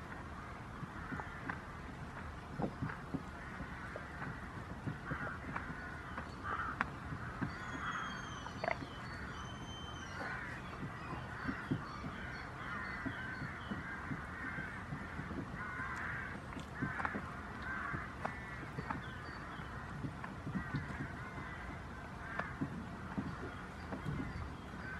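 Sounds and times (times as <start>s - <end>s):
birds cawing: 0.3s - 24.9s.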